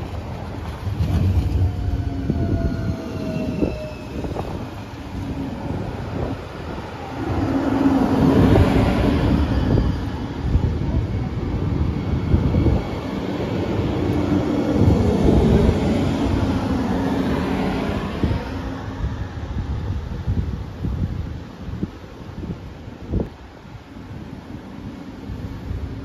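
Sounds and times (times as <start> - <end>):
train wheels rumbling on rails: 0.0 - 23.1.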